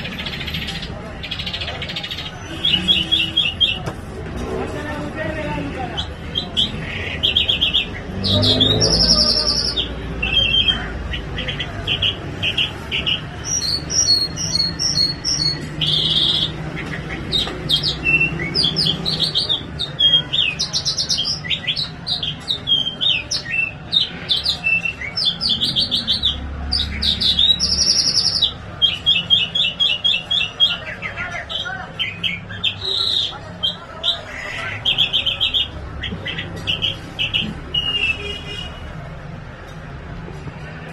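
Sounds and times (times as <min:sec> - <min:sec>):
songbird singing: 0:00.0 - 0:04.0, 0:05.9 - 0:38.7.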